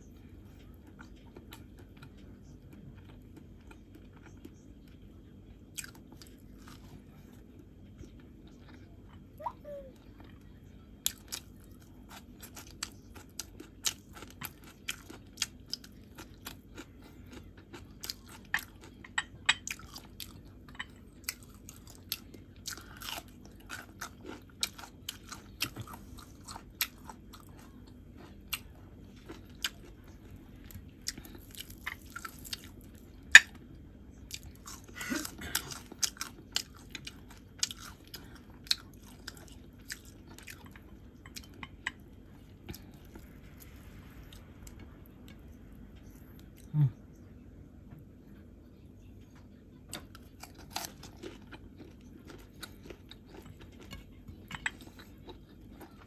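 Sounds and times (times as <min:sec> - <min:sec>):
chewing crunchy vegetables: 0:00.0 - 0:46.9, 0:49.5 - 0:56.0.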